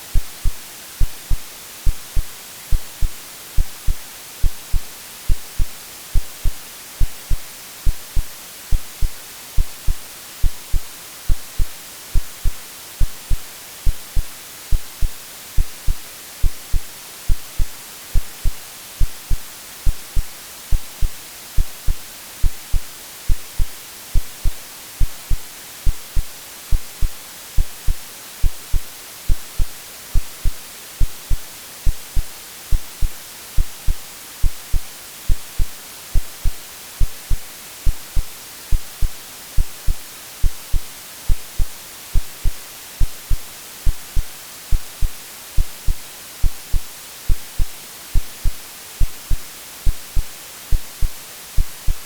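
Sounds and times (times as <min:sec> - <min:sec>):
white noise hiss: 0:00.0 - 0:52.0
synthetic heartbeat thumps: 0:00.2 - 0:52.0.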